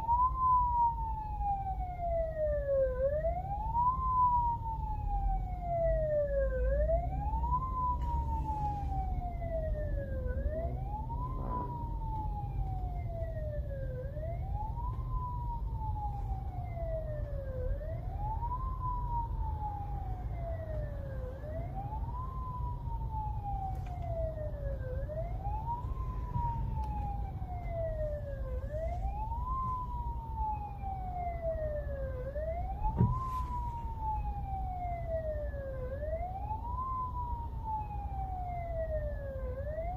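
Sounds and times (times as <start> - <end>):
ambulance siren wailing: 0.0 - 39.9
low road rumble: 0.0 - 39.9.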